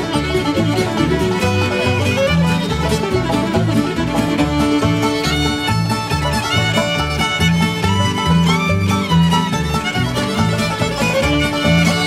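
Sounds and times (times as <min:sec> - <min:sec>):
fiddle melody: 0:00.0 - 0:12.0
strummed acoustic guitar: 0:00.0 - 0:12.0
upright bass walking beat: 0:00.0 - 0:12.0.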